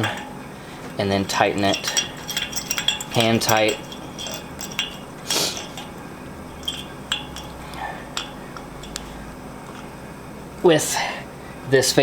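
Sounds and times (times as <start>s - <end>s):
metallic clinks and scrapes: 0.0s - 10.0s.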